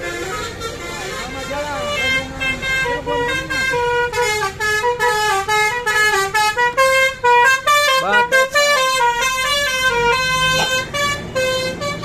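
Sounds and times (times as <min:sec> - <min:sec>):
bus melody horn: 0:00.0 - 0:12.0.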